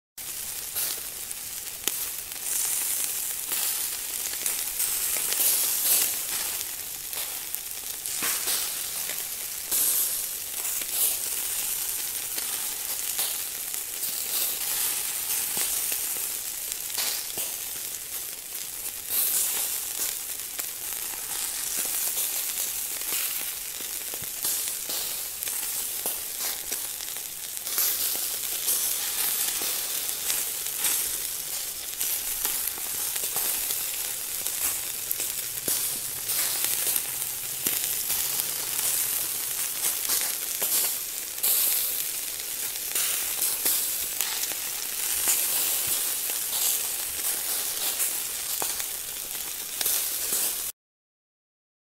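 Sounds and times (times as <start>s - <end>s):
food sizzling in a pan: 0.2s - 50.8s
fat crackling and popping: 0.3s - 50.1s.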